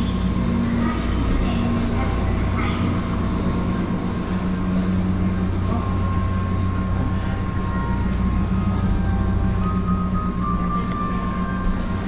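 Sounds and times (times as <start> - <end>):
faint steady tones: 0.0 - 12.0
ship engines droning: 0.0 - 12.0.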